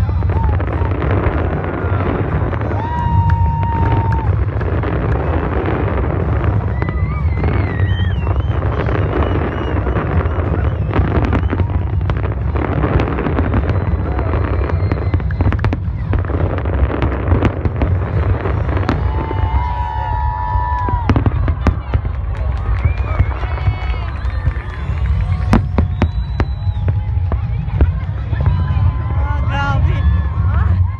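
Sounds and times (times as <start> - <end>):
fireworks booms and crackling: 0.0 - 30.9.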